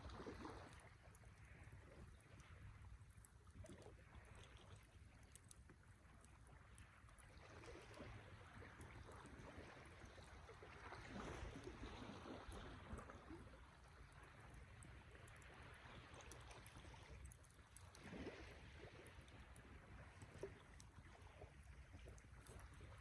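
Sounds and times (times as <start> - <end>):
campfire burning: 0.1 - 23.0.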